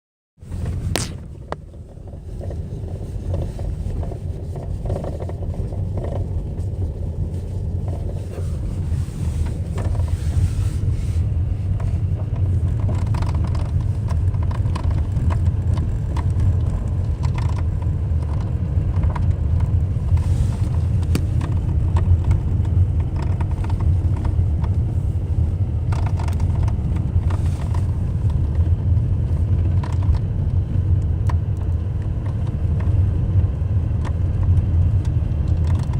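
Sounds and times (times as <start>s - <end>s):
car driving over gravel: 0.4s - 35.9s.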